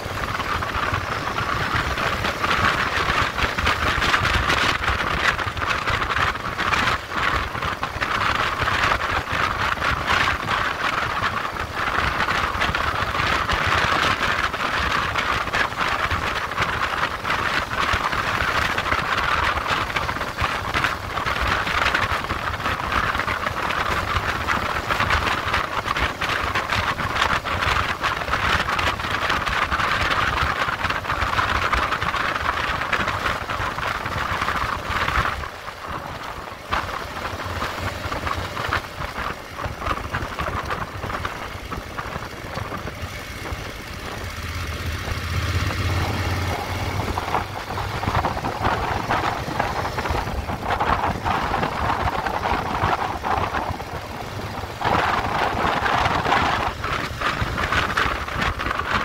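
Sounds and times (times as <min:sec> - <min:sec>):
motorcycle engine and road rumble: 0:00.0 - 0:59.0
wind buffets: 0:00.0 - 0:59.0
wind rush over microphone: 0:00.0 - 0:59.0.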